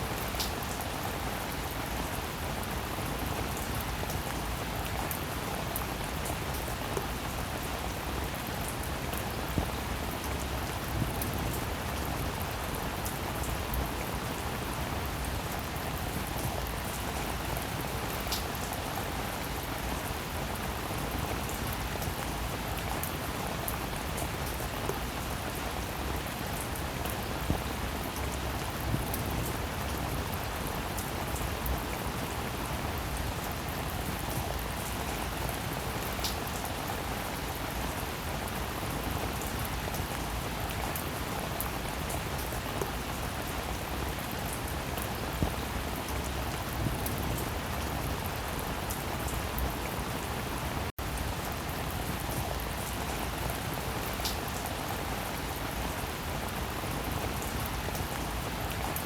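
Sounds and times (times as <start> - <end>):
raindrops ticking on a surface: 0.0 - 59.0.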